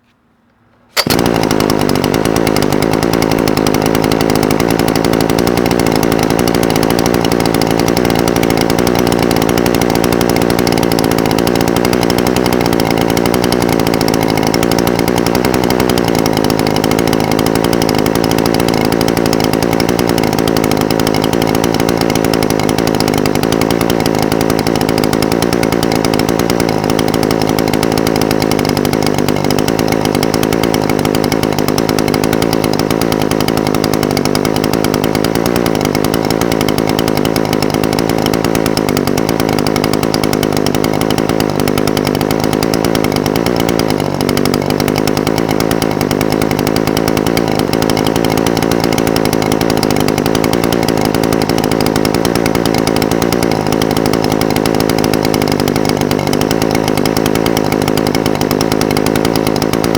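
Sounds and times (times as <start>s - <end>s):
brush cutter engine idling: 0.0s - 59.9s.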